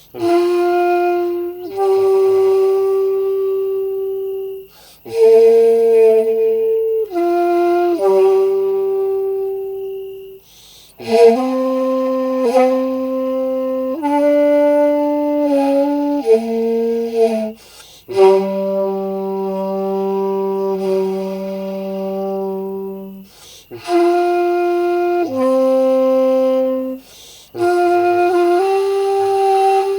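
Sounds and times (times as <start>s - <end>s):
bamboo flute slow melody: 0.0s - 29.9s.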